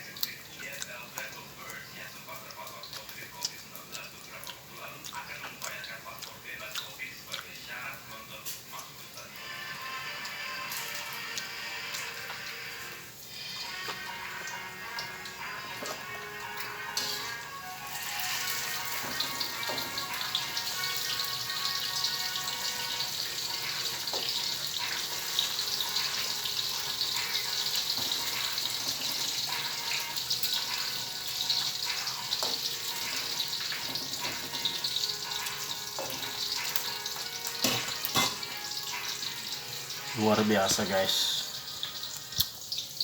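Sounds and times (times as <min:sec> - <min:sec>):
food deep-frying in oil: 0:00.0 - 0:43.0.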